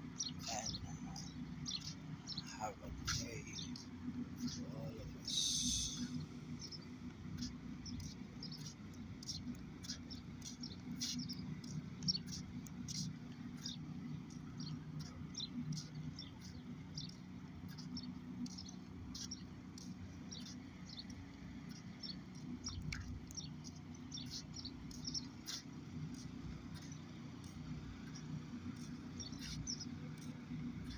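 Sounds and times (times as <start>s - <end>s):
small birds chirping: 0.0s - 30.9s
steady low hum: 0.0s - 30.9s.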